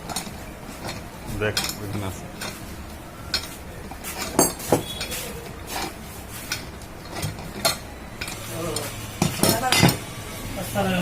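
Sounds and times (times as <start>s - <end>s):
metal tools clinking: 0.0s - 10.0s.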